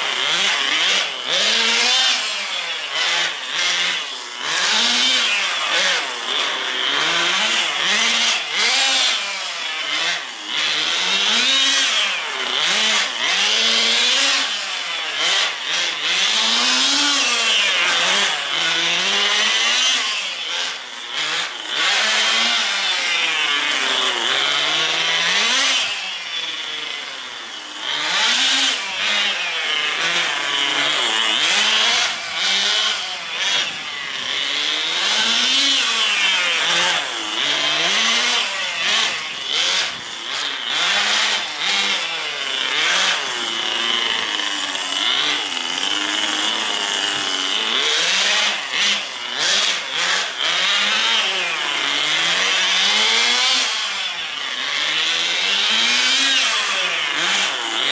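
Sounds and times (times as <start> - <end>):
rc car engine revving: 0.0 - 57.9.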